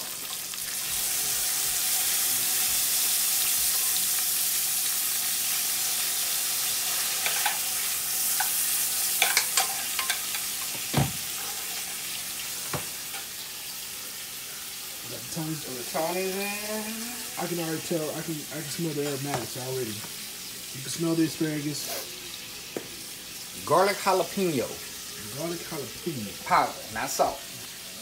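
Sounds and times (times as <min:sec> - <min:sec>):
vegetables sizzling in fat: 0:00.0 - 0:28.0.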